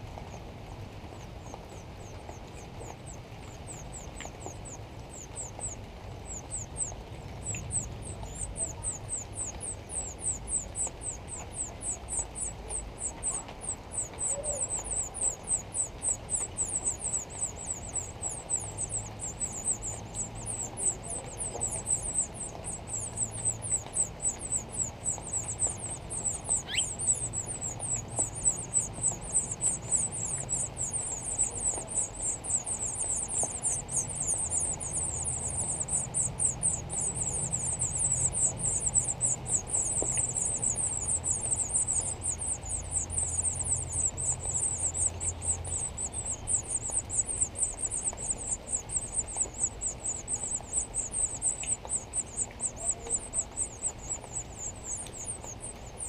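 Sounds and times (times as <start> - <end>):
nestlings cheeping: 1.2 - 56.0.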